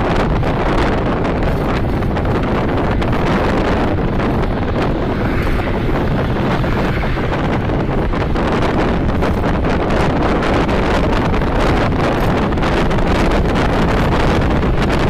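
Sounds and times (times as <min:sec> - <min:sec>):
road and traffic noise: 0:00.0 - 0:15.0
wind noise on microphone: 0:00.0 - 0:15.0.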